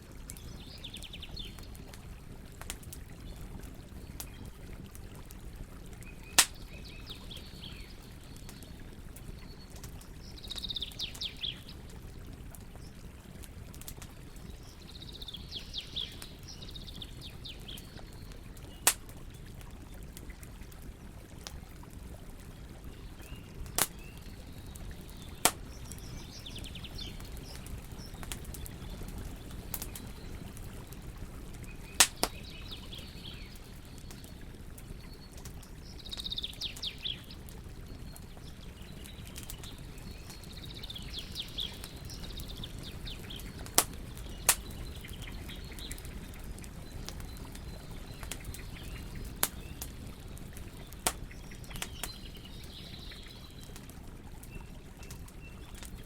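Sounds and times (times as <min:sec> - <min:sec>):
campfire burning: 0:00.0 - 0:56.0
fire crackling pops: 0:00.1 - 0:56.0
small birds chirping: 0:00.2 - 0:02.0, 0:05.8 - 0:13.1, 0:13.8 - 0:20.4, 0:22.5 - 0:56.0.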